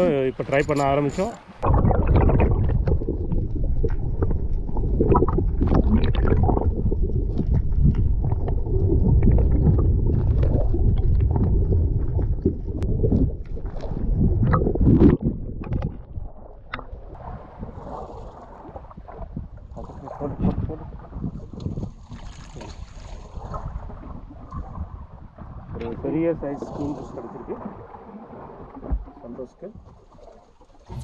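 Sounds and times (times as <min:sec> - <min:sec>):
muffled underwater rumbling and gurgling: 0:00.0 - 0:31.0.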